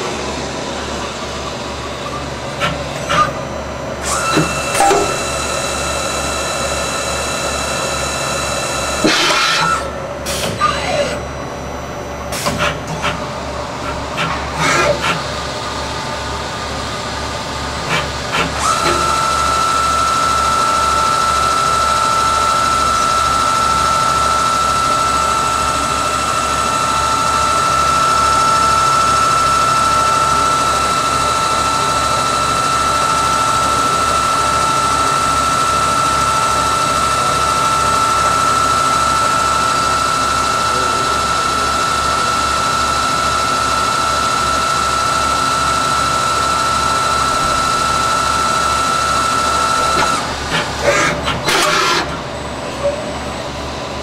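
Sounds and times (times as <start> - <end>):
lathe high whine: 0.0 - 12.3, 13.1 - 54.0
machine hum: 0.0 - 54.0.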